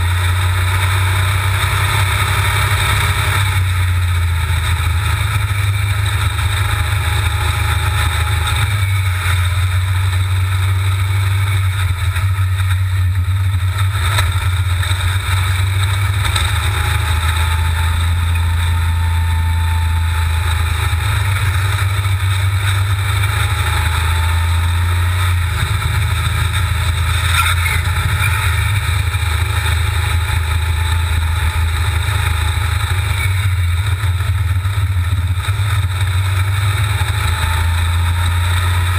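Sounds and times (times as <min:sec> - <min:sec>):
buggy engine running: 0:00.0 - 0:38.9.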